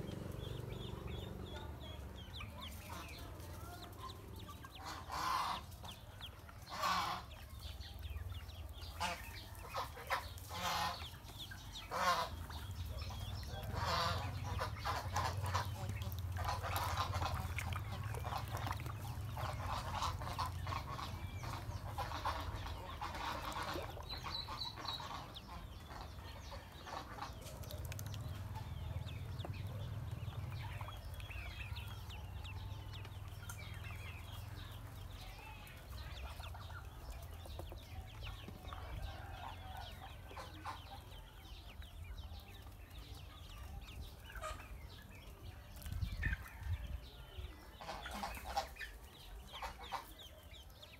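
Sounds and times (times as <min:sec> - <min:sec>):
ducklings peeping: 0:00.0 - 0:50.9.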